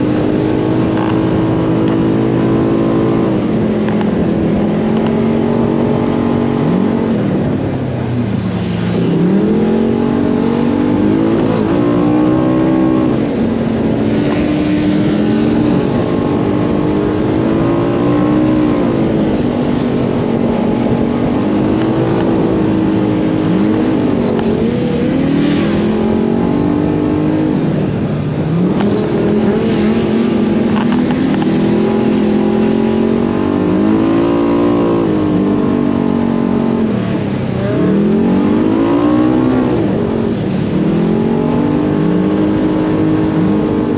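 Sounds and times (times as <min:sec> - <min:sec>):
utility vehicle engine revving: 0:00.0 - 0:43.9.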